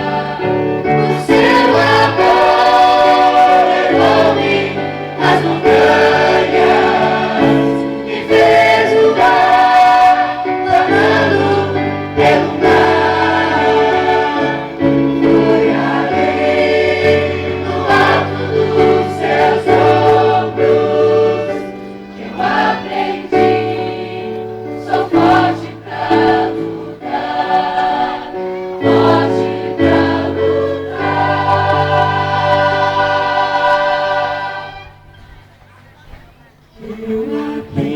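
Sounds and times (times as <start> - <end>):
choir singing held chords: 0.0 - 35.8, 36.7 - 37.9.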